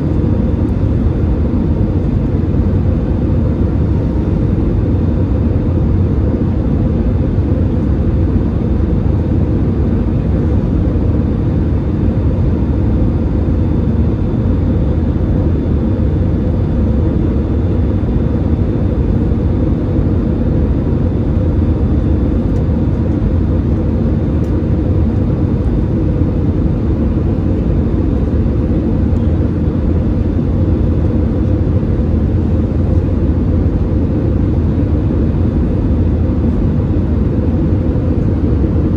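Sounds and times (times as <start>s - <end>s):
aircraft engines rumbling: 0.0s - 38.9s.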